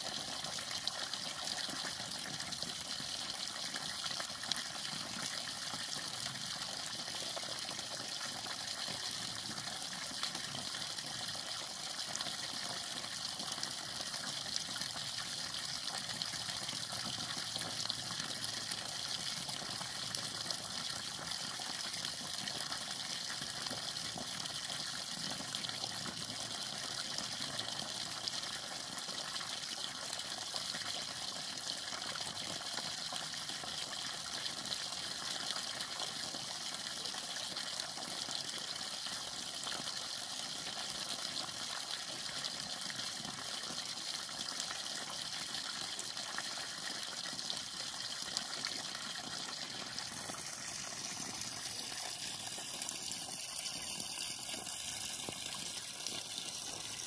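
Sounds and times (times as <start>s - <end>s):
water pouring and splashing on rocks: 0.0s - 57.0s.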